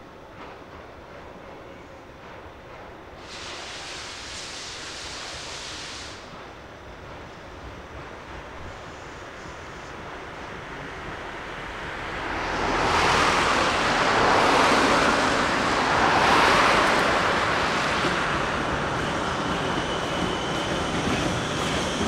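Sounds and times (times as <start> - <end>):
steam locomotive exhaust rushing: 3.1 - 22.0.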